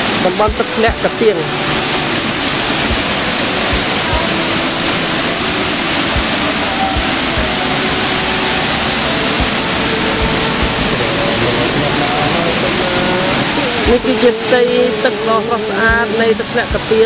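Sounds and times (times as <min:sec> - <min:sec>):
waterfall rushing into pool: 0:00.0 - 0:15.8.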